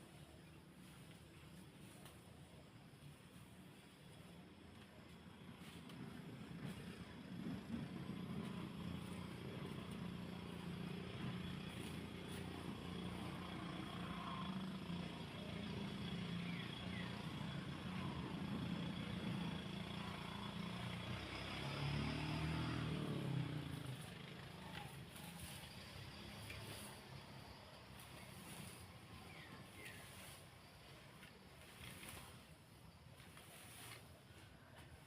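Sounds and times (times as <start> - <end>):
small engine running: 0.1 - 35.0.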